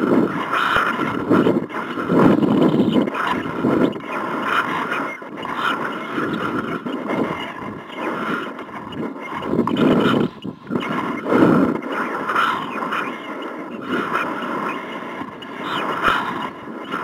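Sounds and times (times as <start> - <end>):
wind buffeting camera: 0.0 - 17.0.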